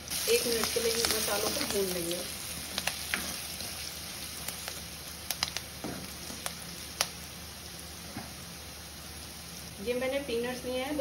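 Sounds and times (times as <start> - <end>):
potatoes and spices sizzling in fat: 0.0 - 11.0.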